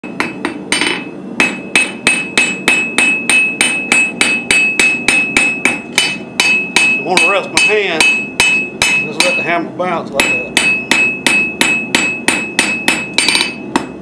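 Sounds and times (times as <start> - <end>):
hammer striking anvil: 0.0 - 9.6, 10.2 - 14.0.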